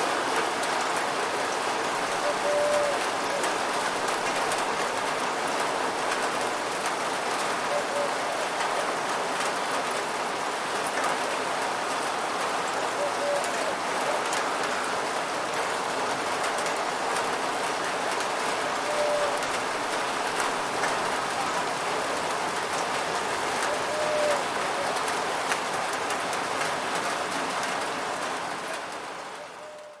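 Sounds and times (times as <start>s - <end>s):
steady rainfall: 0.0s - 30.0s.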